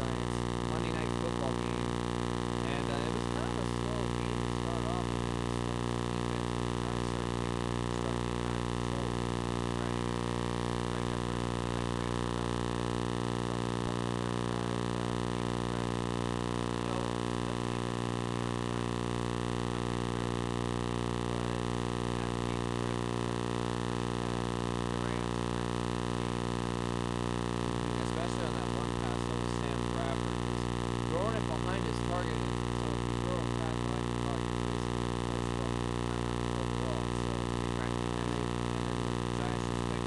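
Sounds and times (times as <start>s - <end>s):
voices: 0.0s - 26.6s, 27.4s - 40.0s
electrical hum and buzz: 0.0s - 40.0s.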